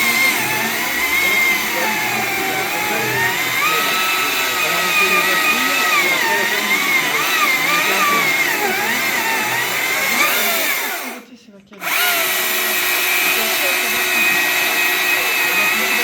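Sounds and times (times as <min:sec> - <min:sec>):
electric chainsaw motor whine: 0:00.0 - 0:11.2, 0:11.8 - 0:16.0.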